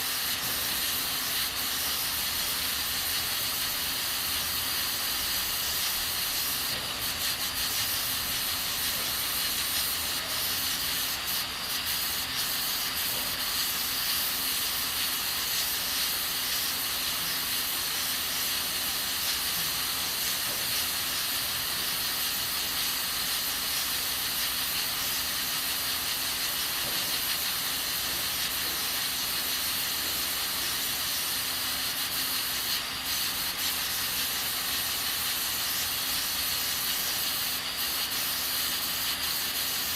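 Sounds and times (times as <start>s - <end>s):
pressure cooker hissing: 0.0s - 39.9s.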